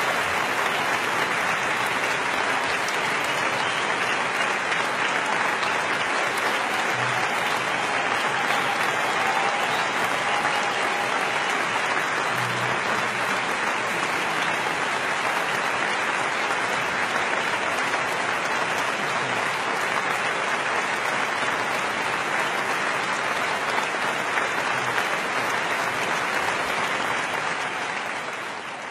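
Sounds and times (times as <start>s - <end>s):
stadium crowd applauding: 0.0s - 28.9s.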